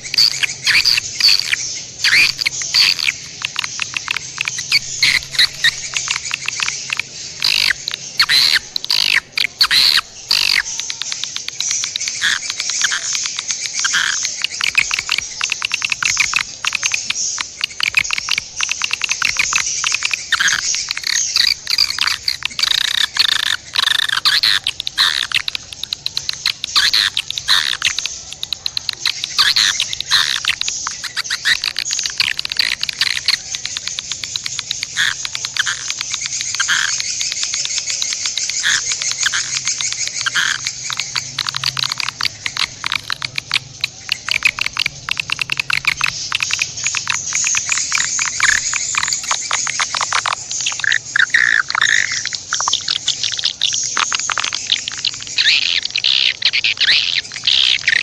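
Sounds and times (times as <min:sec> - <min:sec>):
chorus of high-pitched chirps: 0:00.0 - 0:58.0.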